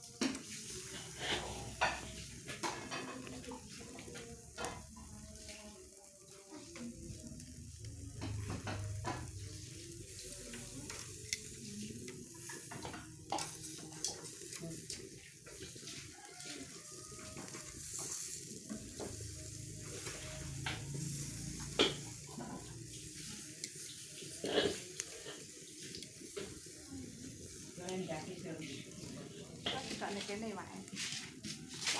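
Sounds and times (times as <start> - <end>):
chicken sizzling on grill: 0.0 - 31.9.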